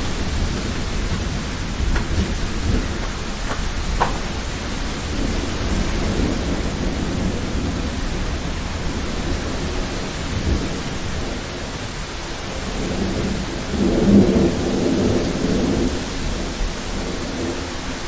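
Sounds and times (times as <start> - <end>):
low rolling thunder: 0.0 - 18.0
steady rain: 0.0 - 18.0.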